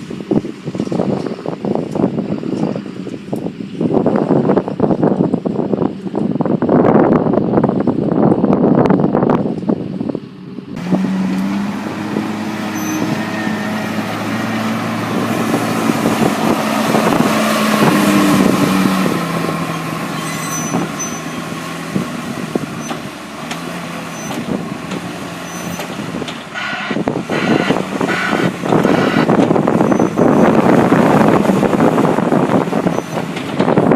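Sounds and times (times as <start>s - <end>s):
diesel engine running: 0.0s - 33.9s
wind buffeting microphone: 0.0s - 33.9s.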